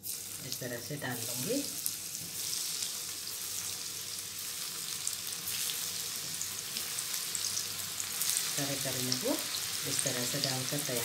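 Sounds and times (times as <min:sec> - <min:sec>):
vegetable slices frying in oil: 0:00.0 - 0:11.0.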